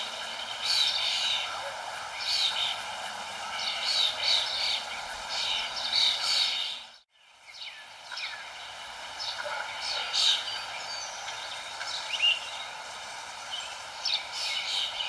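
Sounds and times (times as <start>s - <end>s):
songbirds chirping: 0.0s - 15.0s
steady background hiss: 0.0s - 15.0s.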